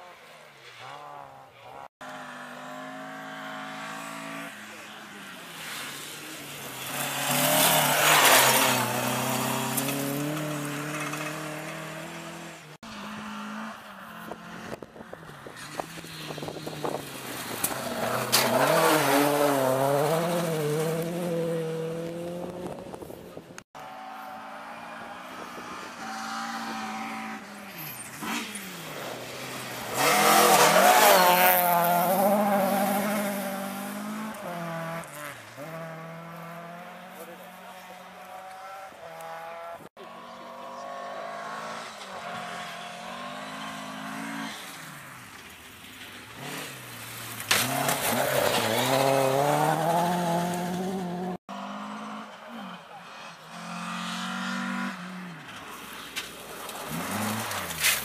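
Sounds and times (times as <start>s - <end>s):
rally cars revving past: 0.1s - 23.0s, 23.8s - 58.0s.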